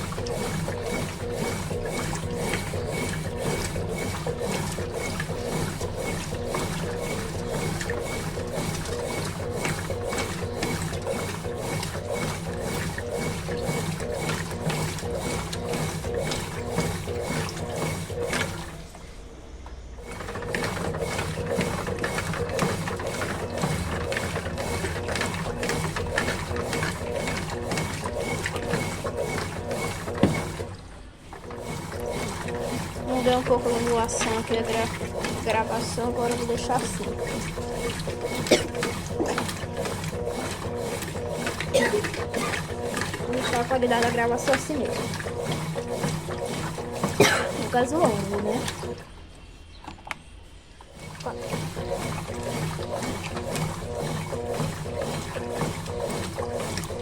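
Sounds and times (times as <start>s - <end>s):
washing machine agitator churning: 0.0s - 49.6s, 50.6s - 57.0s.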